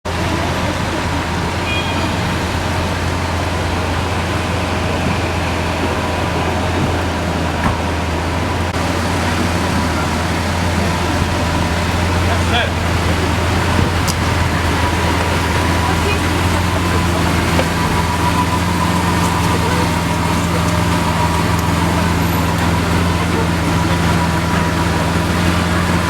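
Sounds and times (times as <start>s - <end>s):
car engine idling: 0.0s - 26.0s
wet street traffic hiss: 0.1s - 26.0s.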